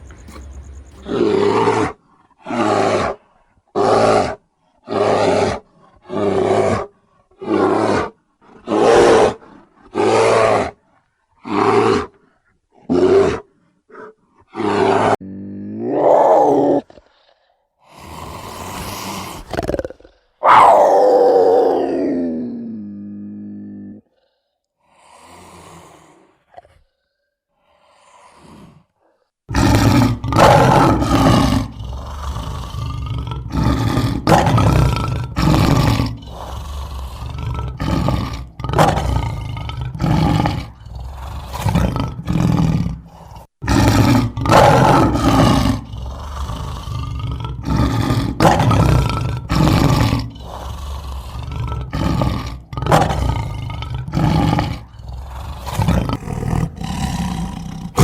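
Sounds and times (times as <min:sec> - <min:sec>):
animal roaring: 0:00.0 - 0:10.8, 0:12.8 - 0:17.4, 0:18.0 - 0:24.4, 0:29.5 - 0:58.0.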